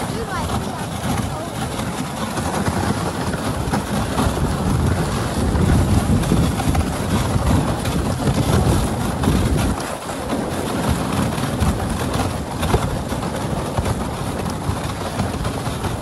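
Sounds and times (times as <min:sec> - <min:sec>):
sled runners rumbling on snow: 0:00.0 - 0:16.0
wind buffeting microphone: 0:00.0 - 0:16.0.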